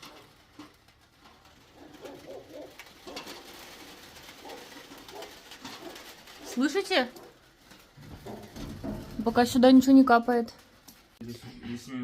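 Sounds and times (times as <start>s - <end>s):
heavy rain on roof: 0.0s - 11.2s.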